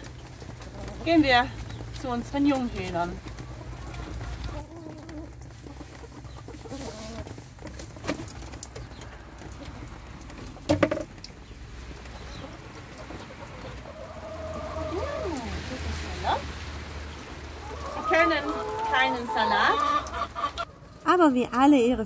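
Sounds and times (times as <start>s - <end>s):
hens clucking: 0.0s - 21.6s.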